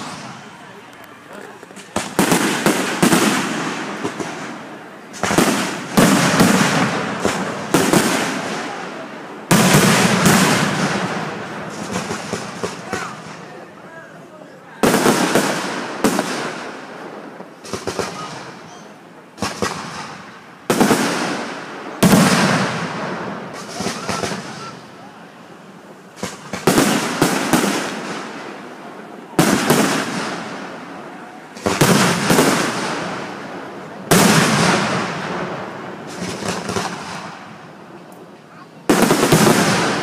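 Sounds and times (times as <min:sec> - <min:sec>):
firework shells booming: 0:00.0 - 0:00.7, 0:01.5 - 0:13.7, 0:14.8 - 0:25.0, 0:25.8 - 0:40.0.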